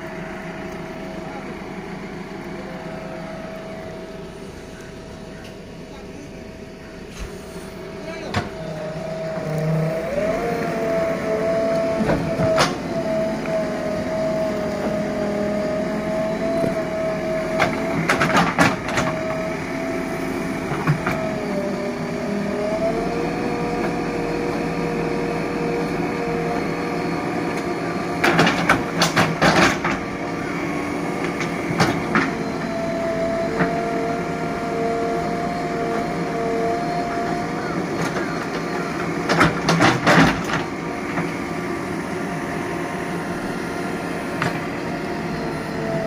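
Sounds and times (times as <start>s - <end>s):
backhoe engine and hydraulics whine: 0.0s - 46.0s.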